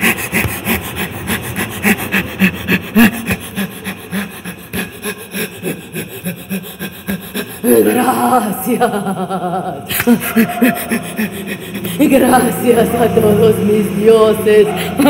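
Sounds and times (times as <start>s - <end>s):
woman panting hard: 0.0s - 13.4s.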